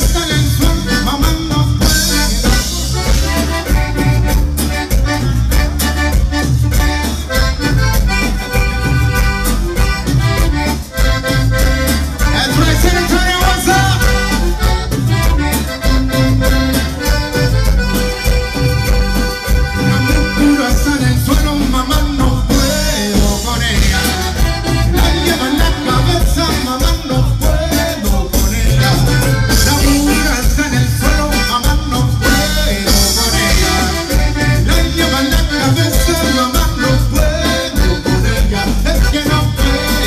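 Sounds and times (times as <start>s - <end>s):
button accordion melody: 0.0s - 40.0s
live band playing dance music: 0.0s - 40.0s.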